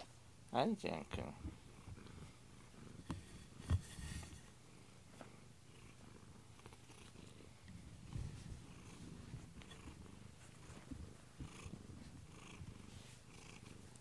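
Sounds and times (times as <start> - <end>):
cat purring: 0.9 - 14.0.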